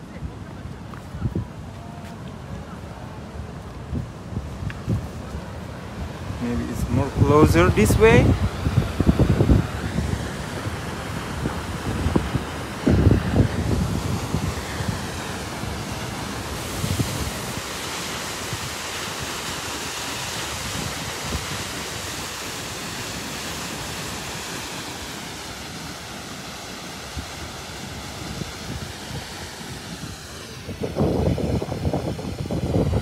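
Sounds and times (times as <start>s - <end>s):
waterfall roaring: 0.0s - 33.0s
wind buffeting microphone: 0.2s - 24.2s, 27.1s - 33.0s.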